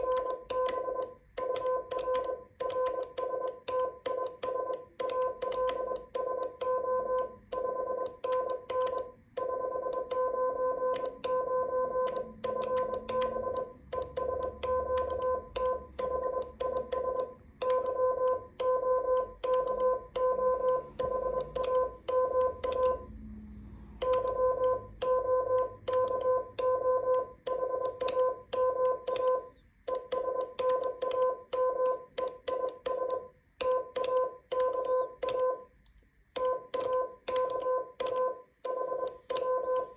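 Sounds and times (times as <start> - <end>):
morse code beeps: 0.0 - 23.1, 24.0 - 35.7, 36.4 - 39.9.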